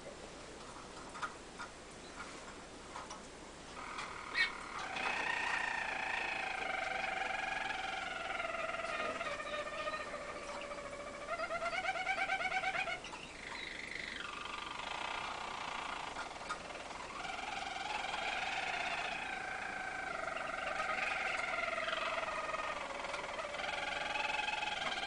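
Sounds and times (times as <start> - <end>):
canary singing trilled song: 3.8 - 25.0.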